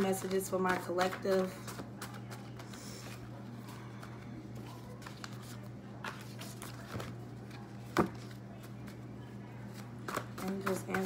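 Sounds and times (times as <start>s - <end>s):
cards being shuffled: 0.0s - 9.0s, 9.6s - 11.0s.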